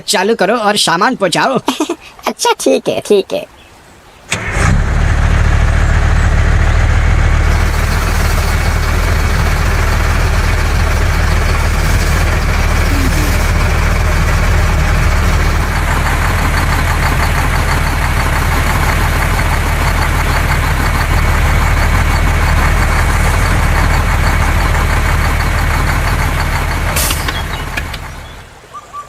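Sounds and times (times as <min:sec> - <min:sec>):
truck engine idling: 0:04.3 - 0:28.7.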